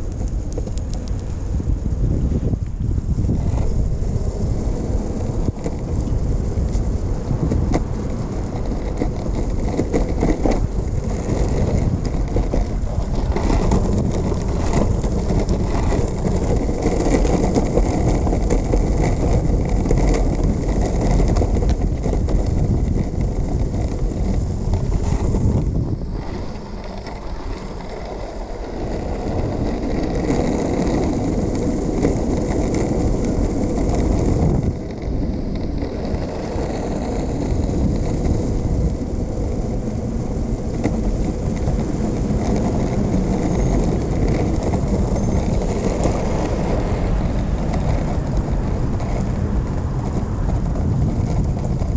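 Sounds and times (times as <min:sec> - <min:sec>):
steady low rumble: 0:00.0 - 0:51.9
wind buffeting microphone: 0:00.0 - 0:51.9.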